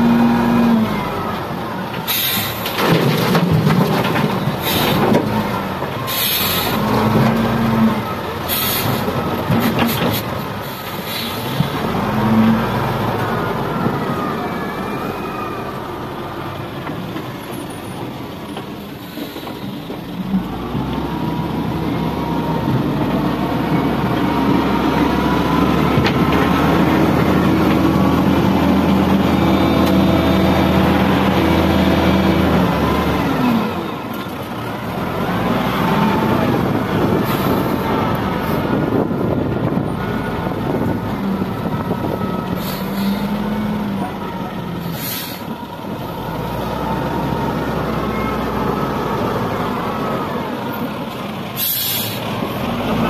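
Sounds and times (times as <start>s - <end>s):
diesel engine revving: 0.0s - 17.4s, 18.0s - 53.0s.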